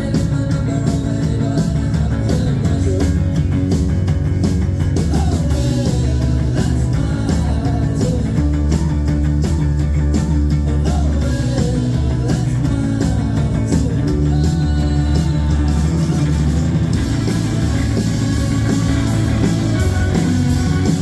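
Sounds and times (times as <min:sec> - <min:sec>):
lead vocal singing: 0:00.0 - 0:03.7, 0:04.8 - 0:09.8, 0:10.5 - 0:21.0
live rock band playing: 0:00.0 - 0:21.0.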